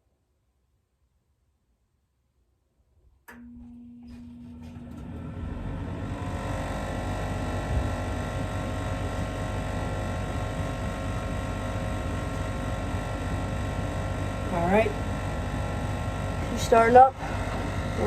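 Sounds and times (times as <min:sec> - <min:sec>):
furnace motor humming: 0:03.3 - 0:18.0.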